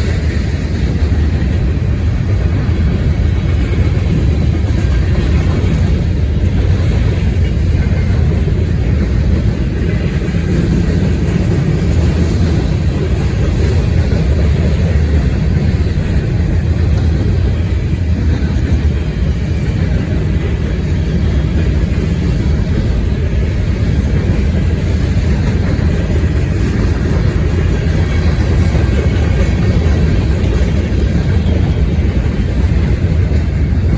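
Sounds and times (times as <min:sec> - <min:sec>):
freight train rumbling past: 0:00.0 - 0:33.9
wind buffeting microphone: 0:00.0 - 0:33.9.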